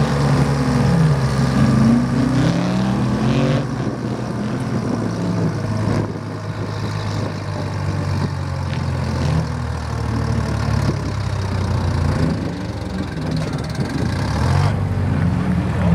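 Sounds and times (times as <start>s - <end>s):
diesel engine under heavy load: 0.0s - 15.9s.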